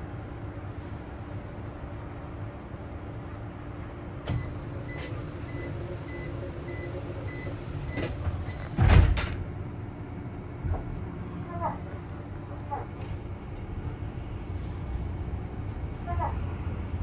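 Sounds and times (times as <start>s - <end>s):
bus cabin rumble: 0.0s - 17.0s.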